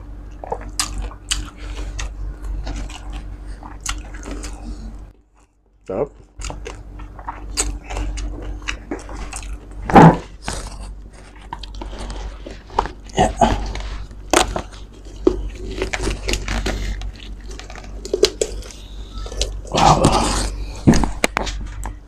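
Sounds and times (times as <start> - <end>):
roast pig skin crunching: 0.3 - 22.0.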